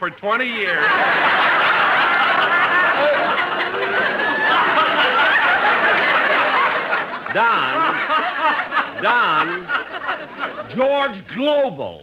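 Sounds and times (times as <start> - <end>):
studio audience laughing: 0.6 - 11.0.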